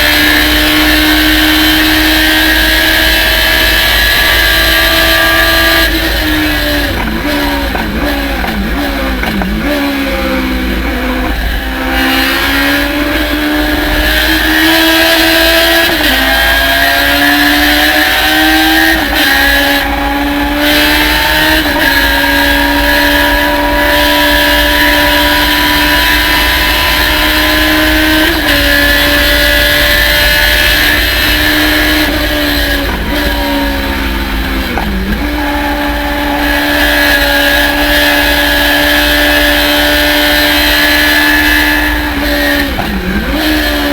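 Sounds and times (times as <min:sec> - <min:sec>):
race car engine revving hard: 0:00.0 - 0:43.9.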